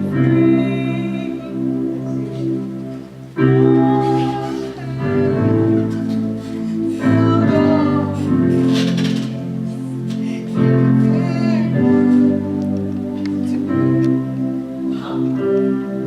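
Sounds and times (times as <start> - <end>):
gospel music chords: 0.0 - 16.0.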